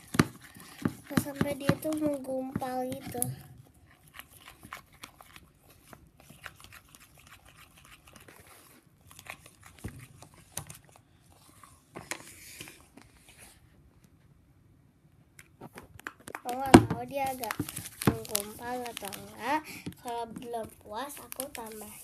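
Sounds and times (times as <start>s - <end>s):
spoon stirring slime: 0.0s - 12.8s, 16.3s - 22.0s.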